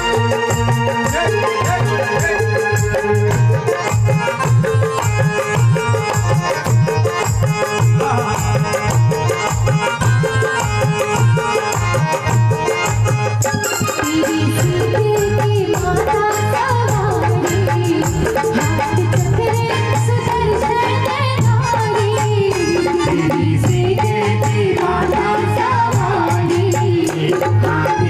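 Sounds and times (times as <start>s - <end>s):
devotional music played live: 0.0s - 28.0s
fast hand-drum beat: 0.0s - 28.0s.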